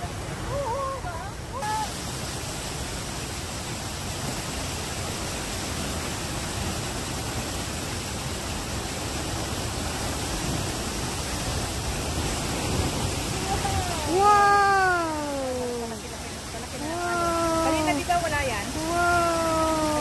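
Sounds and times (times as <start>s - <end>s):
ocean surf rushing: 0.0s - 20.0s.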